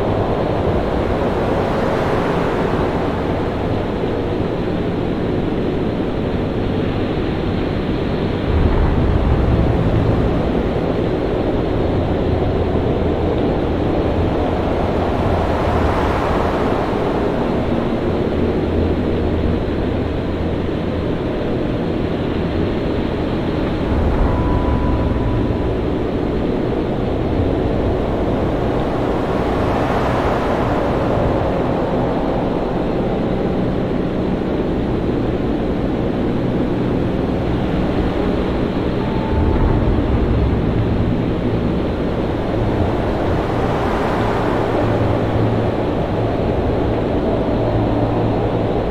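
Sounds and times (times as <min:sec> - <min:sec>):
heavy waves and wind rumbling: 0:00.0 - 0:48.9
waves breaking: 0:06.6 - 0:21.2, 0:22.3 - 0:48.9.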